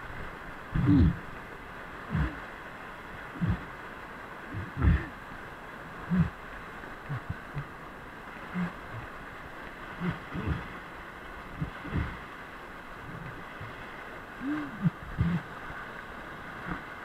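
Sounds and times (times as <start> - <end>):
whitewater rapids rushing: 0.0 - 17.0.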